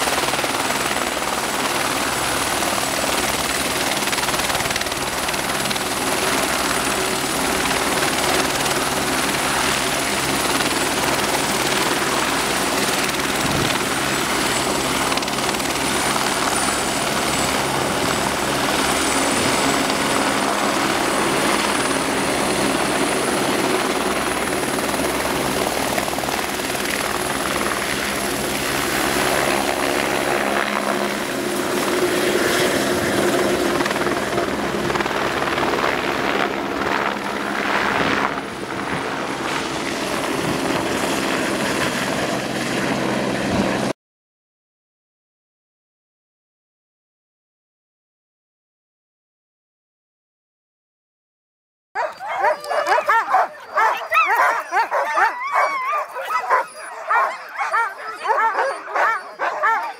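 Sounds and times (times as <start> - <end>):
helicopter rotor beating: 0.0 - 43.9, 52.0 - 59.9
helicopter turbine whine: 0.0 - 43.9, 52.0 - 59.9.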